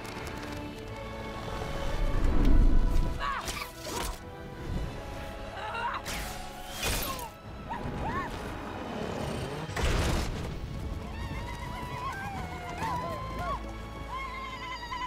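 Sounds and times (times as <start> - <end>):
action film music: 0.0 - 15.0.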